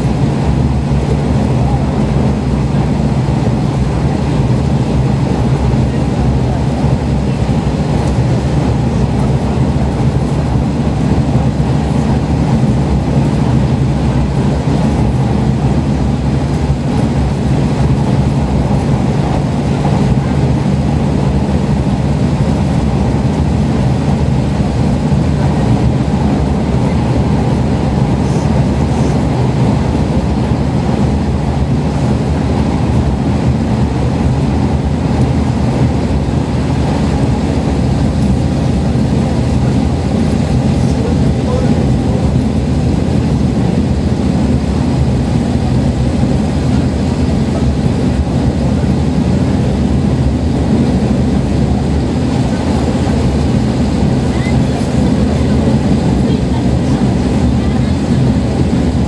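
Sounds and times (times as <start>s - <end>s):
train engine drone: 0.0s - 59.0s.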